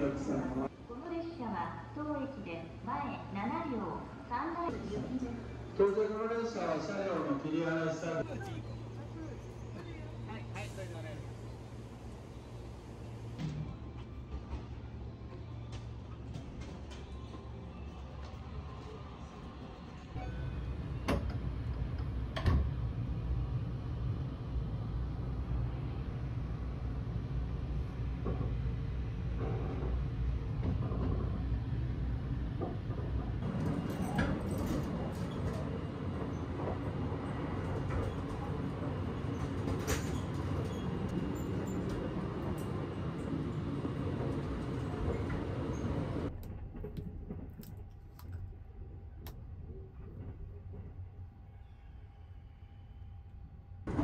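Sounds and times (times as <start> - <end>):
train low rumble: 0.0 - 54.0.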